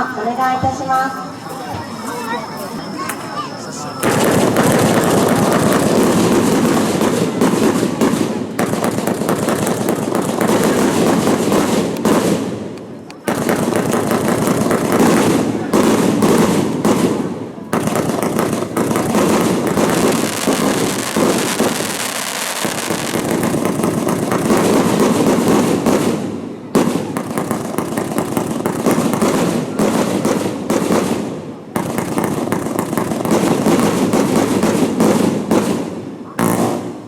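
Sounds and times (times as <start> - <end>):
fireworks crackling and hissing: 0.0 - 37.0.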